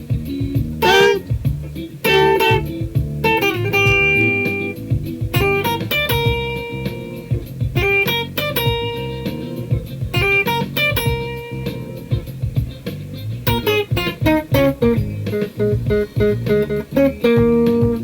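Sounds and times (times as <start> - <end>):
busy bass line: 0.0 - 18.0
funk band music: 0.0 - 18.0
guitar chord stabs: 0.0 - 18.0.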